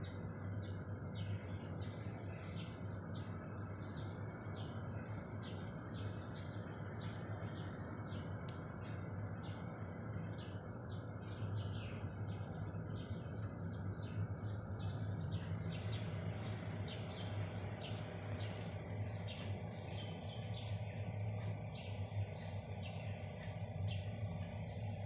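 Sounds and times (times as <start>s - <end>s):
birds chirping: 0.0s - 25.0s
low hum: 0.0s - 25.0s.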